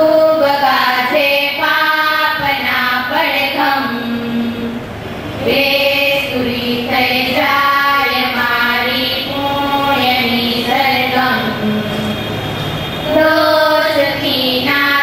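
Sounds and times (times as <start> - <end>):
girls singing in unison: 0.0 - 12.3, 13.0 - 15.0.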